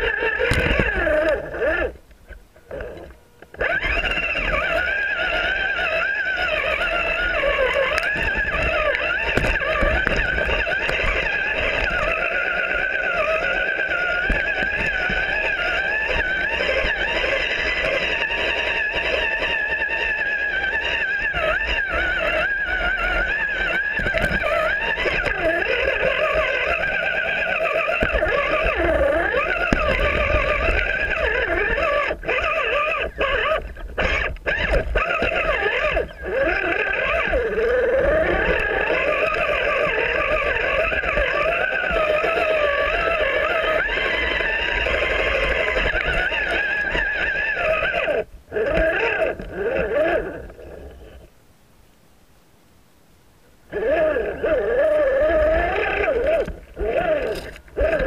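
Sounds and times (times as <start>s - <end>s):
electric motor and gearbox whining: 0.0s - 51.3s, 53.7s - 58.0s.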